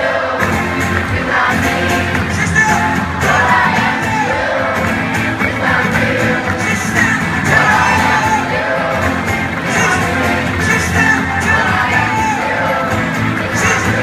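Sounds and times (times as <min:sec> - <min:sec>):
crowd singing along: 0:00.0 - 0:14.0
live band playing: 0:00.4 - 0:14.0.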